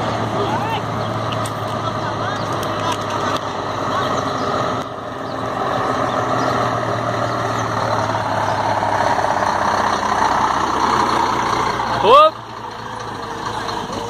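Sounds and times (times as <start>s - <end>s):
diesel truck engine approaching: 0.0s - 14.0s.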